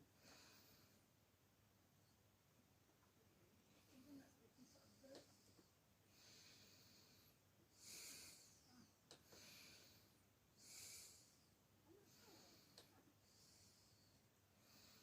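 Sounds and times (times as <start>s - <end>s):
faint slow breathing: 0.0s - 1.2s, 3.8s - 15.0s.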